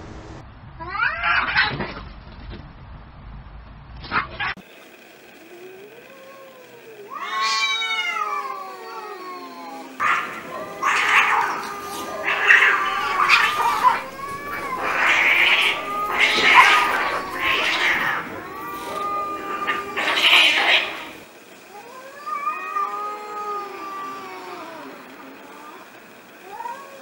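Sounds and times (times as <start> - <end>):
cats screeching: 0.9 - 2.0, 5.9 - 27.0
cats yowling: 0.9 - 2.0, 5.4 - 27.0.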